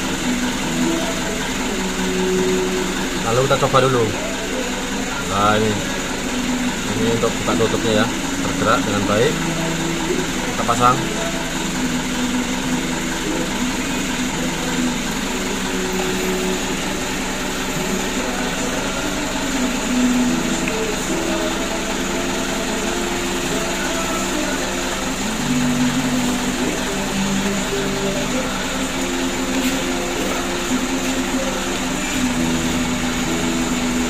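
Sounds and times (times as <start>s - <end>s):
background music of held notes: 0.0s - 34.0s
machine drone: 0.0s - 34.0s.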